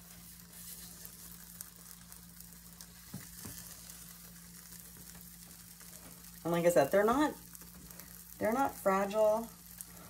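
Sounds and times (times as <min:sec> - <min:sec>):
pancakes sizzling in a skillet: 0:00.0 - 0:10.0
steady low hum: 0:00.0 - 0:10.0.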